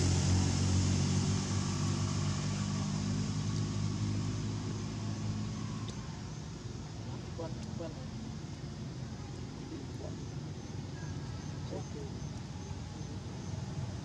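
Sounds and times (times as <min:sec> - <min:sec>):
distant motor engine droning: 0:00.0 - 0:14.0.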